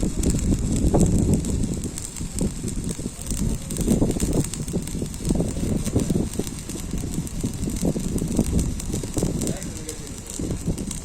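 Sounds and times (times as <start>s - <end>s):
arc welding crackling: 0.0s - 11.0s
low rumble: 0.0s - 11.0s.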